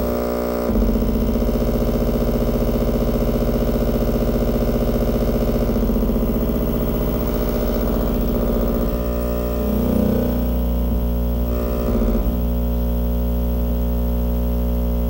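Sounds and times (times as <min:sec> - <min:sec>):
electronic buzzing drone: 0:00.0 - 0:15.0.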